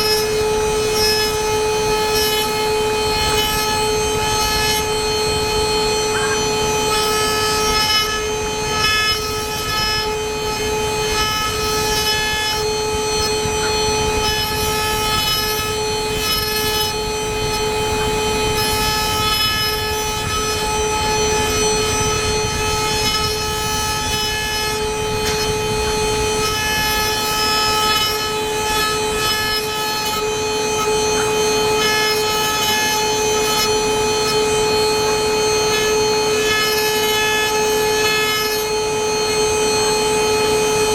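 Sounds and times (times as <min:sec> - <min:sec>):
milling machine cutting: 0:00.0 - 0:40.9.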